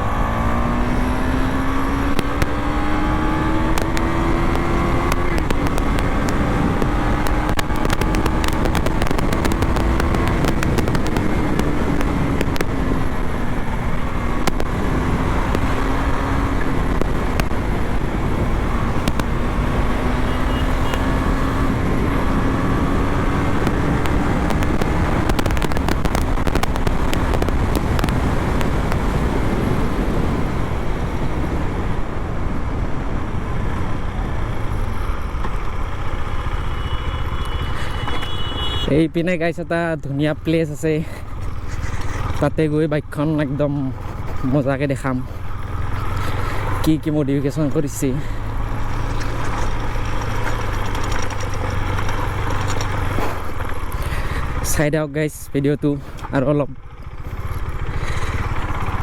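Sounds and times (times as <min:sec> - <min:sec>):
motorcycle engine running: 0:00.0 - 0:38.8, 0:40.4 - 0:59.0
exhaust crackles: 0:00.0 - 0:59.0.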